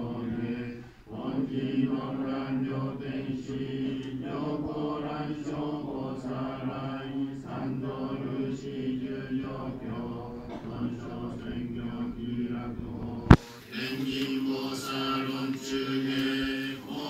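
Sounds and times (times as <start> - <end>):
voices chanting: 0.0 - 17.0.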